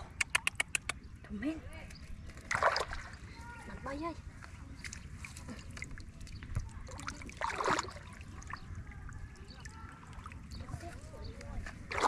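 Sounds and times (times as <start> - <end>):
water splashing and trickling: 2.2 - 12.0.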